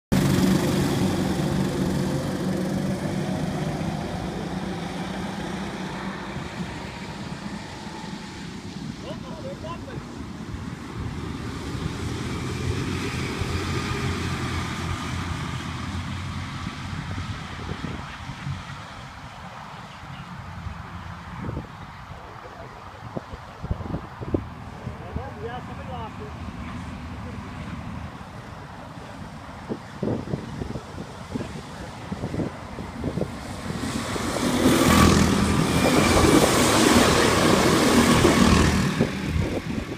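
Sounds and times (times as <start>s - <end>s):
go-karts racing past: 0.1s - 22.7s, 24.7s - 39.9s.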